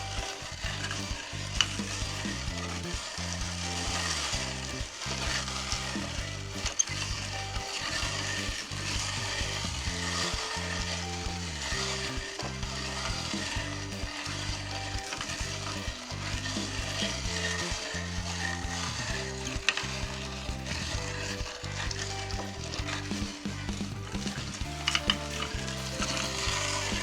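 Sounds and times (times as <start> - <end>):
meat grinder crunching cereal: 0.0 - 27.0.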